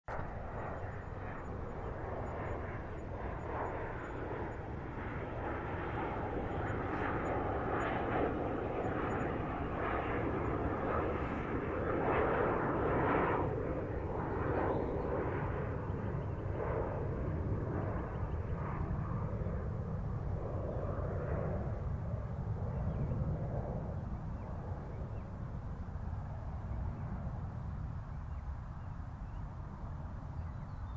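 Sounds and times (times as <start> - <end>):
jet airplane flying past: 0.1 - 30.9.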